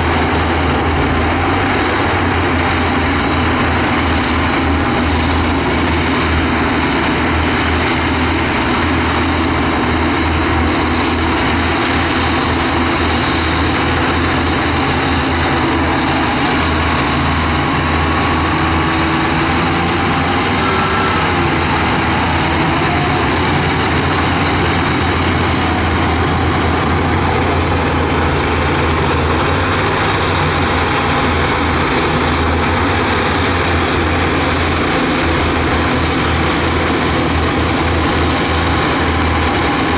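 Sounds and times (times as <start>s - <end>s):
diesel engine rumbling under load: 0.0s - 39.9s.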